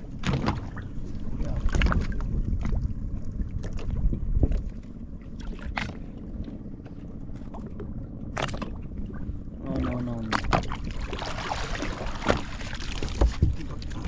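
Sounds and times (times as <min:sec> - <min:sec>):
boat engine low rumble: 0:00.0 - 0:14.0
water splashes: 0:00.0 - 0:14.0.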